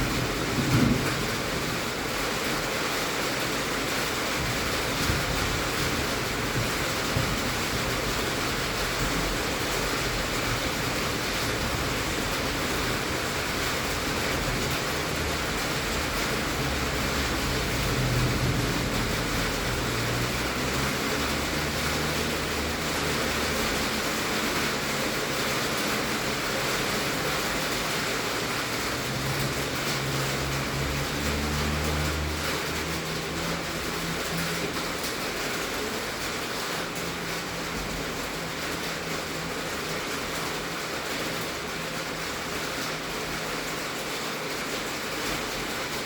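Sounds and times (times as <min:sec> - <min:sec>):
heavy rain on a tin roof: 0:00.0 - 0:46.0.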